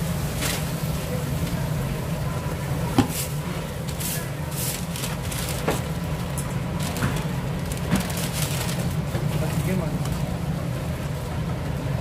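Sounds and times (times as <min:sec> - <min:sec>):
grill hissing: 0:00.0 - 0:12.0.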